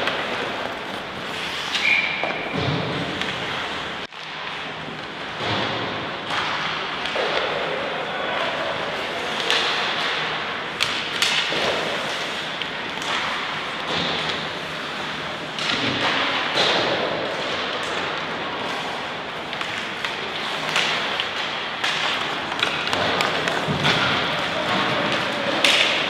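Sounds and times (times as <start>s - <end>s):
steady noisy background: 0.0s - 26.0s.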